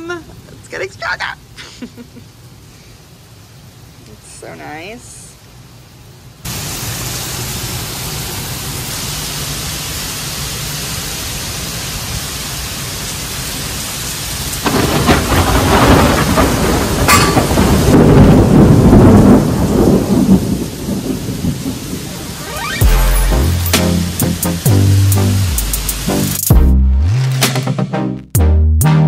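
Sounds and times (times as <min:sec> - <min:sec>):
heavy rain hissing: 0:00.0 - 0:26.7.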